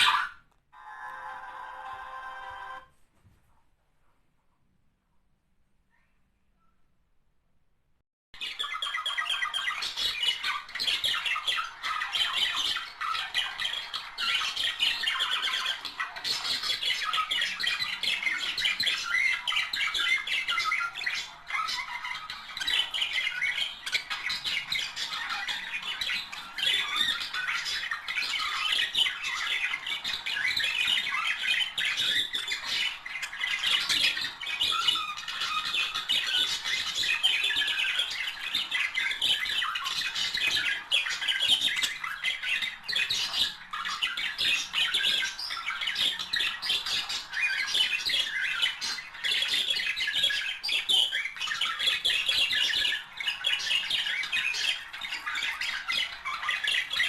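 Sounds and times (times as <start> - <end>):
budgerigars chattering and warbling: 8.4 - 57.0.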